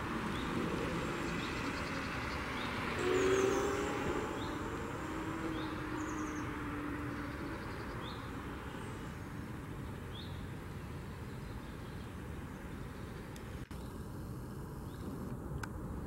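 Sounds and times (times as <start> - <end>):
distant traffic: 0.0 - 16.0
low vehicle hum: 0.0 - 16.0.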